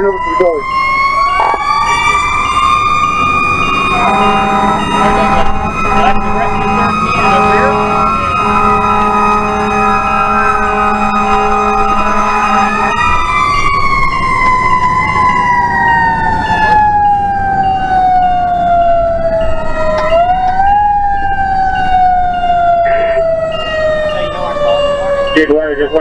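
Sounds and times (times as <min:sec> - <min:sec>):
fire truck siren: 0:00.0 - 0:26.0.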